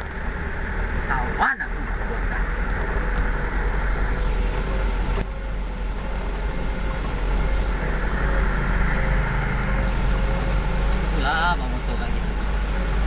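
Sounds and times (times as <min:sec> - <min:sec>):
road noise: 0:00.0 - 0:13.0
vehicle engine rumbling: 0:00.0 - 0:13.0.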